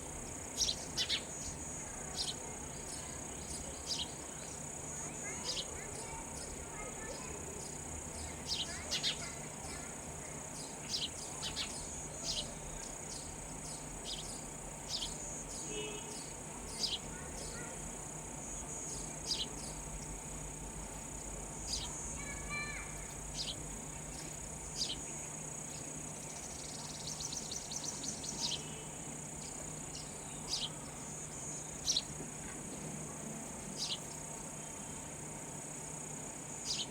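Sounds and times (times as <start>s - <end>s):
insects droning: 0.0s - 36.9s
sparrows chirping: 0.1s - 17.8s, 18.4s - 32.9s, 33.6s - 35.2s, 36.0s - 36.9s.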